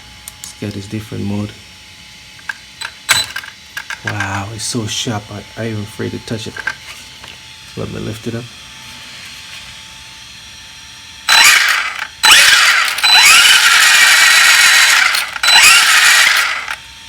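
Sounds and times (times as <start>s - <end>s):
electric motor revving with whine: 2.3s - 17.0s.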